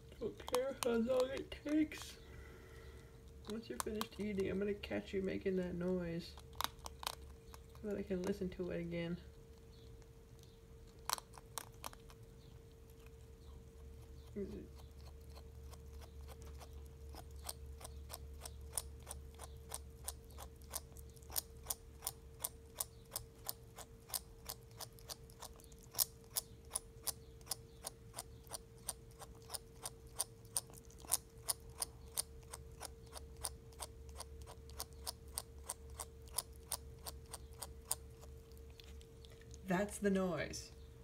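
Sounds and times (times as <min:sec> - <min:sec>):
faint steady hum: 0:00.0 - 0:41.0
ferret clicking its teeth: 0:03.2 - 0:04.8, 0:06.3 - 0:08.4, 0:09.4 - 0:39.7.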